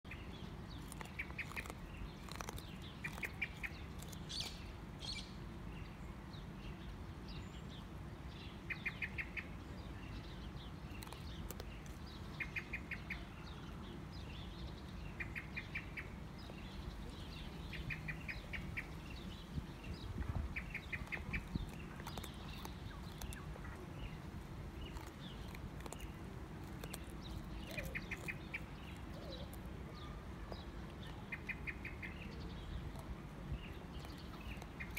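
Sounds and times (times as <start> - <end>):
wallaby chewing carrot: 0.1 - 5.4, 8.6 - 34.9.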